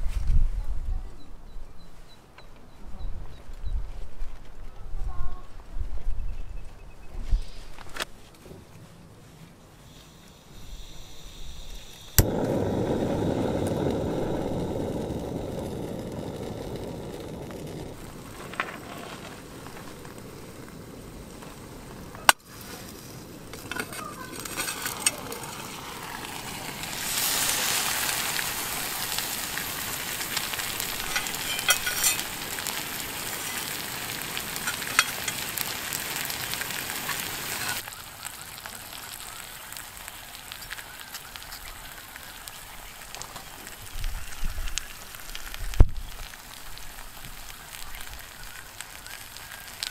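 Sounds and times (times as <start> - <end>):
food sizzling in a pan: 9.8 - 49.9.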